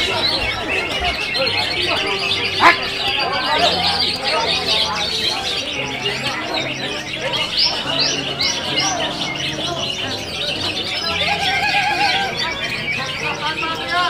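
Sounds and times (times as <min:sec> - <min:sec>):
birds singing: 0:00.0 - 0:14.0.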